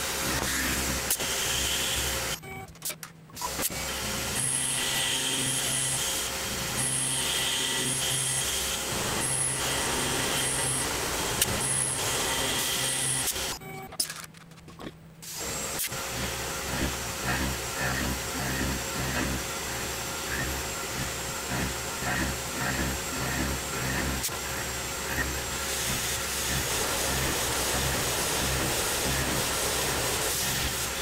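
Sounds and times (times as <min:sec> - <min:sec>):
milling machine cutting steel: 0:03.4 - 0:13.6, 0:15.3 - 0:31.0.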